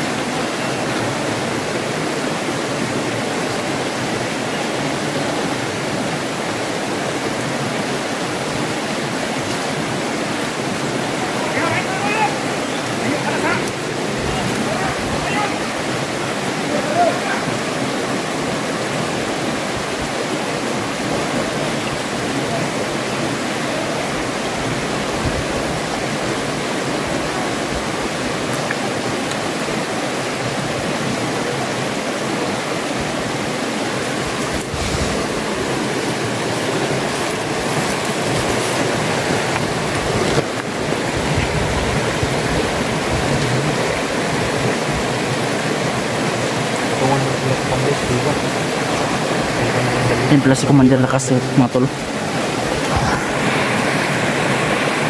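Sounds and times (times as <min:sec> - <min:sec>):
stream water rushing over rocks: 0:00.0 - 0:55.0.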